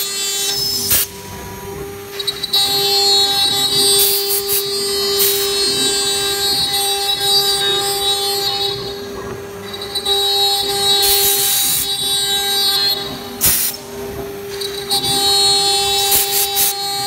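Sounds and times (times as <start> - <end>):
hissing cutting noise: 0.0 - 17.0
router spindle whine: 0.0 - 17.0.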